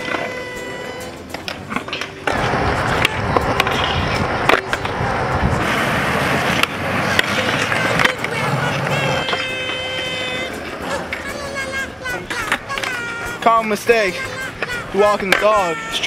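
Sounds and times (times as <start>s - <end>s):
skateboard clacking on ground: 0.0s - 16.0s
skateboard wheels rolling on concrete: 0.0s - 16.0s.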